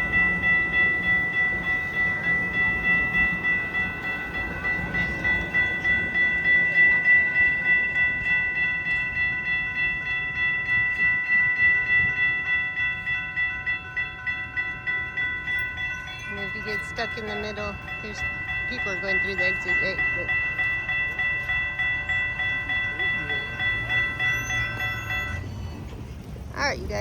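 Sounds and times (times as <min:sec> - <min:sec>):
railroad crossing bell ringing: 0:00.0 - 0:27.0.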